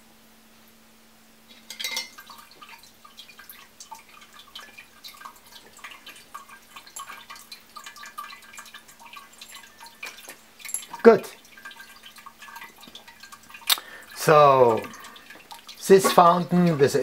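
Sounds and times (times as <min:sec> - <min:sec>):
fountain water splashing and dripping: 0:02.2 - 0:17.0.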